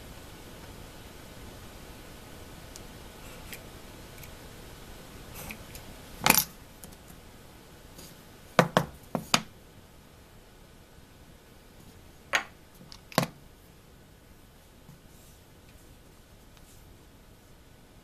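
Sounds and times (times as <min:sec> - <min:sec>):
low steady hiss: 0:00.0 - 0:18.0.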